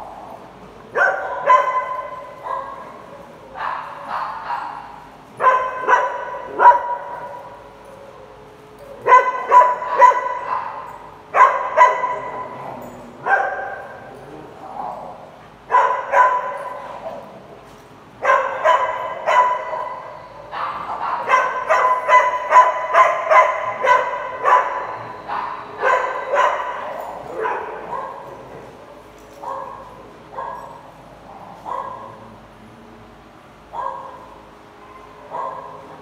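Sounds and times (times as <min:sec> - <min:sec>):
dogs barking: 0:00.0 - 0:17.6, 0:18.2 - 0:32.4, 0:33.6 - 0:36.0.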